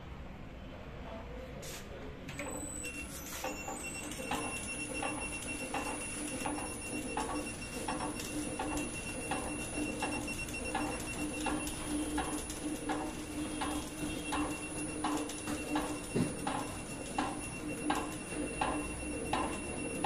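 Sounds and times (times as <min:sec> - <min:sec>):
machine clicking: 0:02.3 - 0:20.0
machine humming: 0:02.3 - 0:20.0.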